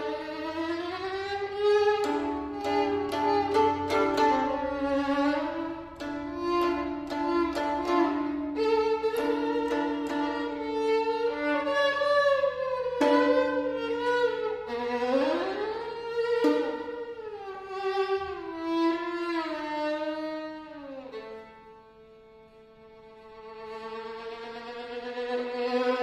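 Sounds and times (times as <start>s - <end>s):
two violins playing: 0.0s - 26.0s.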